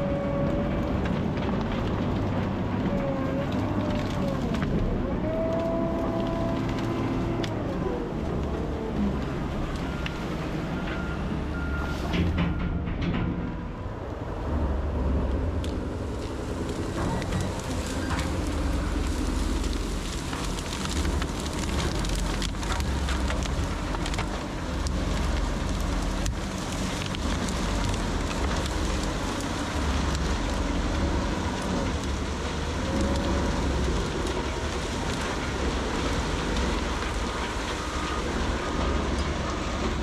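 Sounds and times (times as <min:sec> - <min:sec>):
crackling and snapping: 0:00.0 - 0:11.8, 0:15.2 - 0:40.0
diesel machinery rumbling: 0:00.0 - 0:40.0.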